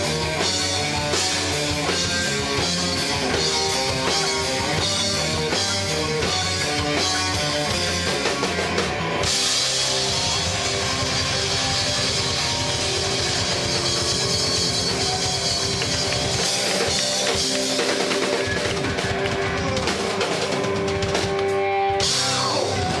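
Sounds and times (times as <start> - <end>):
drum kit: 0.0 - 23.0
electric guitar: 0.0 - 23.0
rock band playing: 0.0 - 23.0.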